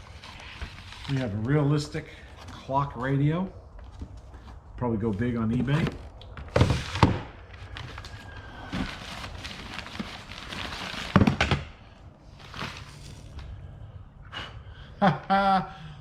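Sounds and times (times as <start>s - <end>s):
rustling: 0.0s - 13.7s.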